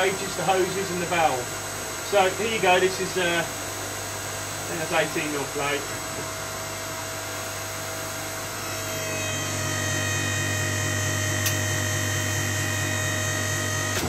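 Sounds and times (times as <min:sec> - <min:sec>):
hydraulic pump humming: 0:00.0 - 0:14.0.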